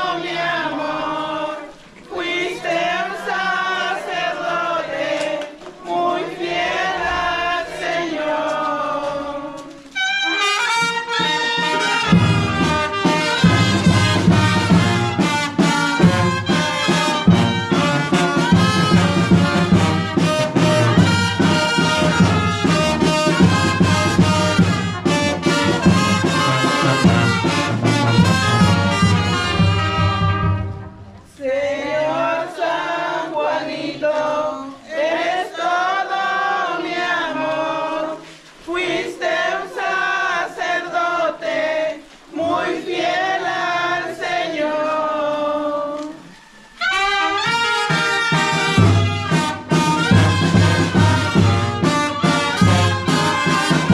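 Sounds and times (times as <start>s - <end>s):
brass band music: 0.0s - 40.2s, 42.4s - 53.9s.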